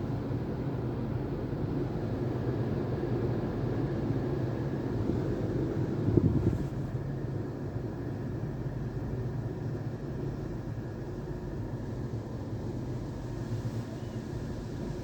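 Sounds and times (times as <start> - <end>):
car wash equipment rumble and hiss: 0.0 - 15.0.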